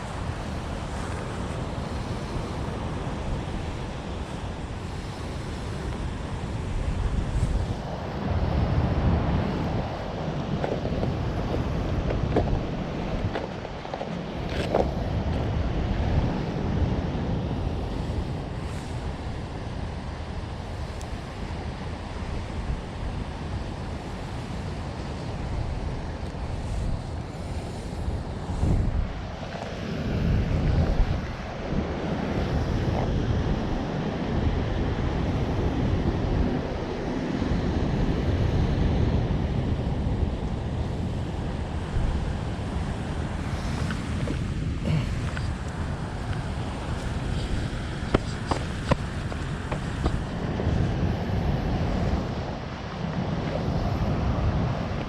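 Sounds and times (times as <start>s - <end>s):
ocean surf washing in: 0.0s - 55.0s
wind on microphone: 0.0s - 55.0s.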